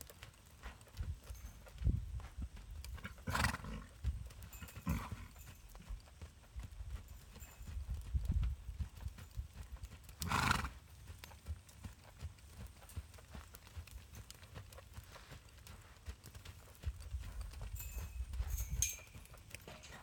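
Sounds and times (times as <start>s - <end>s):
hooves thudding in sand: 0.0s - 20.0s.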